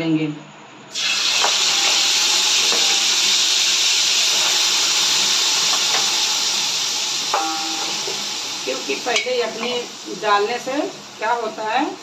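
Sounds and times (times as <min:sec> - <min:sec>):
stock sizzling in hot oil: 0:00.9 - 0:12.0.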